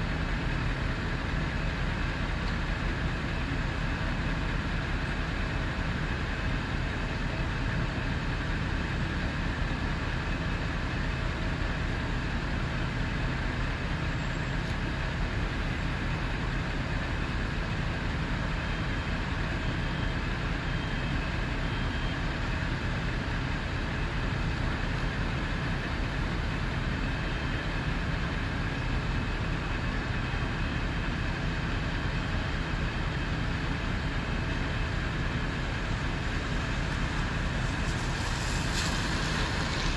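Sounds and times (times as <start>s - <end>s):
fire engine running: 0.0s - 39.9s.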